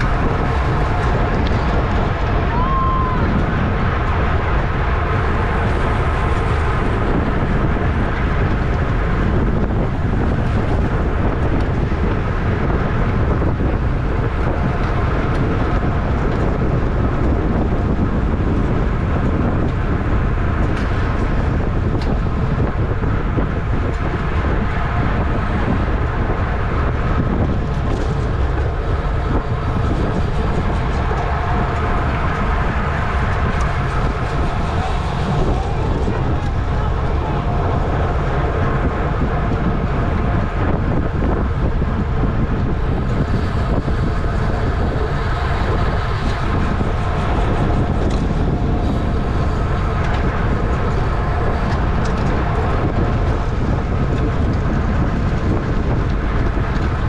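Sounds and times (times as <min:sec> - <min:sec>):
bike rolling noise: 0:00.0 - 0:57.0
wind rush over microphone: 0:00.0 - 0:57.0.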